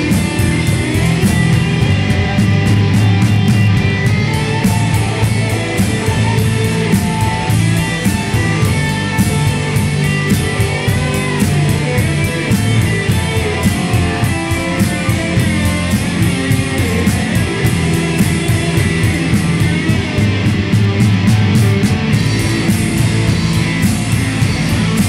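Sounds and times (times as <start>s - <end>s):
rock band playing live: 0.0s - 25.0s
steady drum beat: 0.0s - 25.0s.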